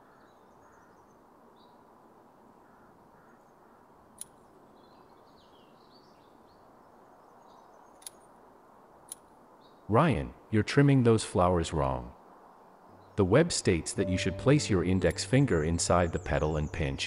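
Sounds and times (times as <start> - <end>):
faint birdsong: 0.0 - 10.6, 11.6 - 17.0.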